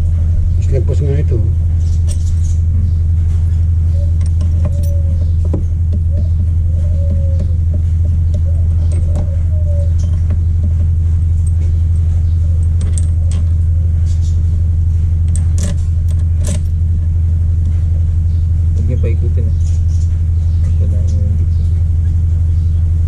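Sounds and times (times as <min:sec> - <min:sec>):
loud steady low hum: 0:00.0 - 0:23.0.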